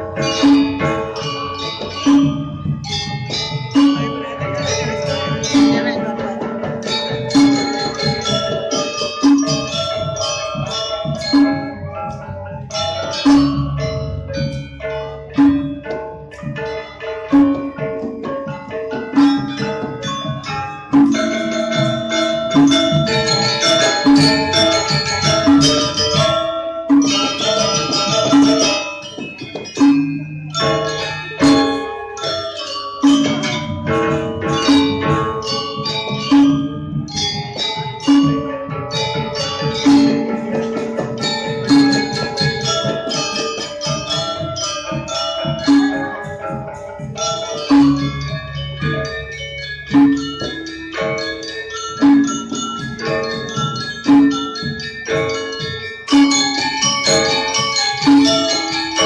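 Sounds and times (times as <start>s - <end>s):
gamelan metallophones ringing: 0.0s - 59.0s.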